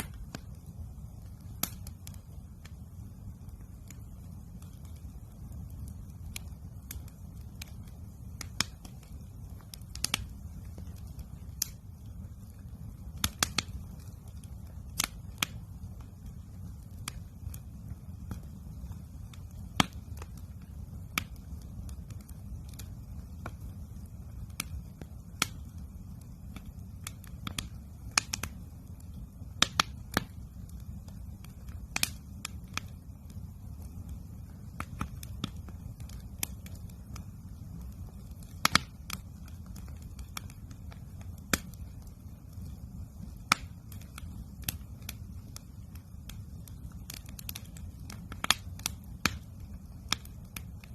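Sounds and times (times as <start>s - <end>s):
campfire crackling and popping: 0.0s - 50.9s
low fire rumble: 0.0s - 50.9s.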